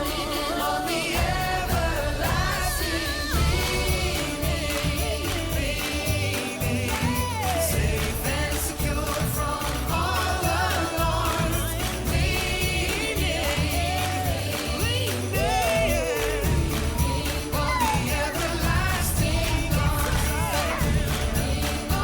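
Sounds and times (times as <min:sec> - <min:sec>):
backing track with steady beat: 0:00.0 - 0:22.0
person singing: 0:00.0 - 0:22.0.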